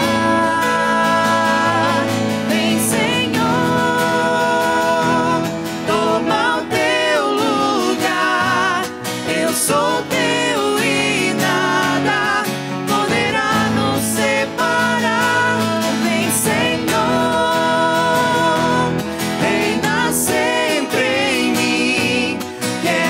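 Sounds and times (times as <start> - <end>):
electric keyboard: 0.0 - 23.0
strummed acoustic guitar: 0.0 - 23.0
voices singing: 0.0 - 23.0.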